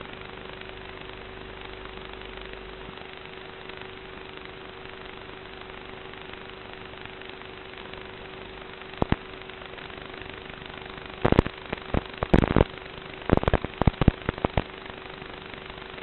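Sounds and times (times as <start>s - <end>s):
faint hum: 0.0s - 16.0s
steady hiss: 0.0s - 16.0s.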